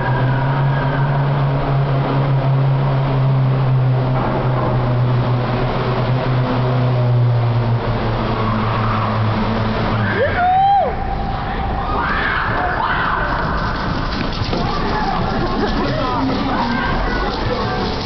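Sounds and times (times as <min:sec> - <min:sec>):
vehicle engine droning in tunnel: 0:00.0 - 0:18.0.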